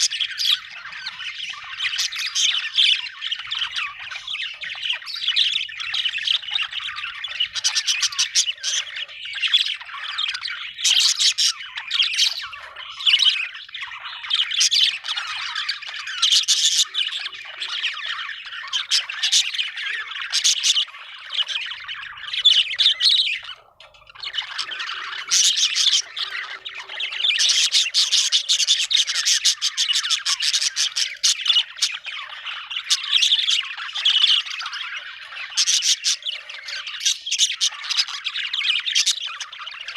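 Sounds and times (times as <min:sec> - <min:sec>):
budgerigar chirping and warbling: 0:00.0 - 0:39.9.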